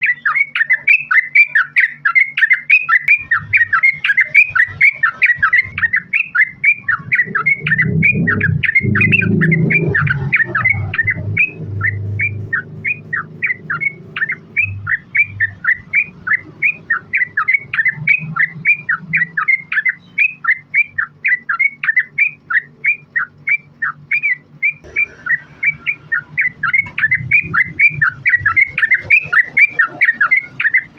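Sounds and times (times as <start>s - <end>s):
bird singing bubbling notes: 0.0s - 30.9s.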